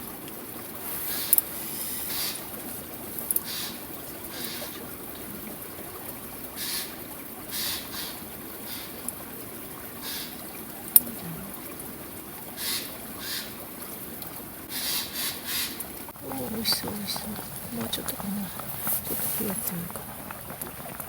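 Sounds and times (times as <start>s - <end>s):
soup bubbling in a pot: 0.0s - 21.0s.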